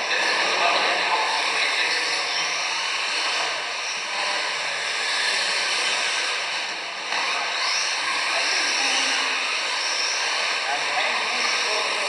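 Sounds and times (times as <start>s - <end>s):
electric toy car motors whining: 0.0s - 12.0s.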